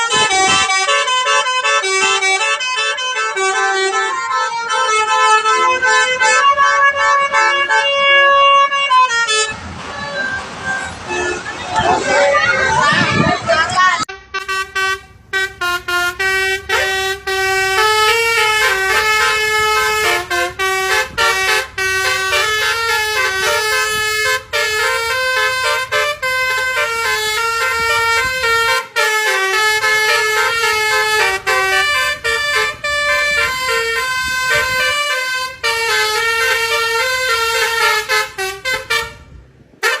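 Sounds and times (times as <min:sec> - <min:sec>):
multi-tone bus air horn jingle: 0:00.0 - 0:40.0.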